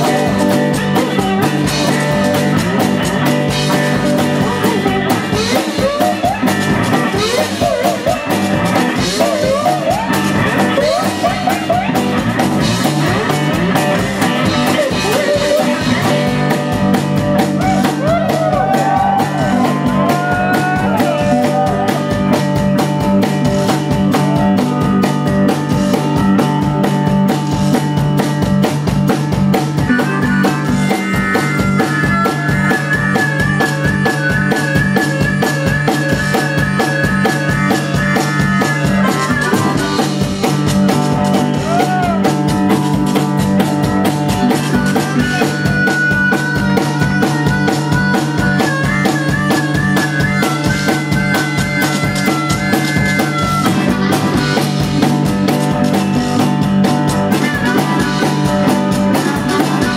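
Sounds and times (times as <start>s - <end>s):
driving drum beat: 0.0s - 59.9s
live blues-rock band: 0.0s - 59.9s
slide guitar: 0.0s - 59.9s.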